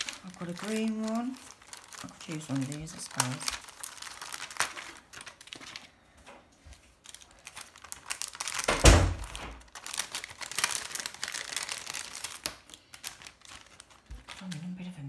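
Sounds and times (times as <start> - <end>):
plastic sheet crinkling: 0.0 - 15.0.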